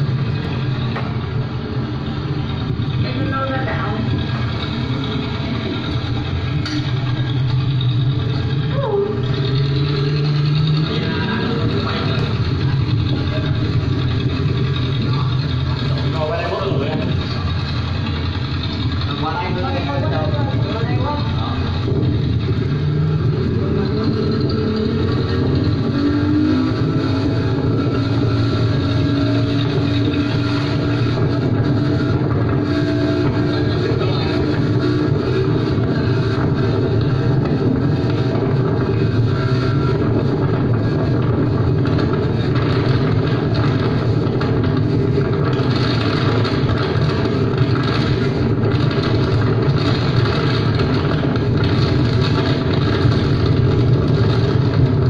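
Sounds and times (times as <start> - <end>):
speedboat engine running: 0.0 - 55.0.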